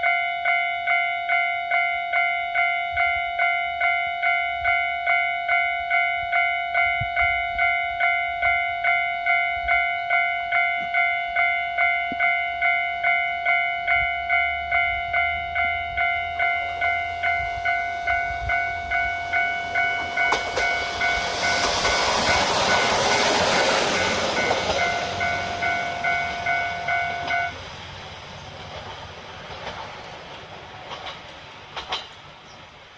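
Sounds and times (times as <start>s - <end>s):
level crossing warning bell: 0.0s - 27.7s
diesel railcar rumbling: 0.8s - 32.9s.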